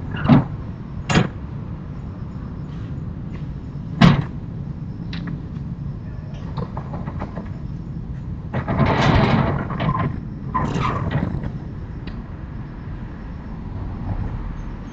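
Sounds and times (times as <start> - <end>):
low traffic rumble: 0.0 - 14.9.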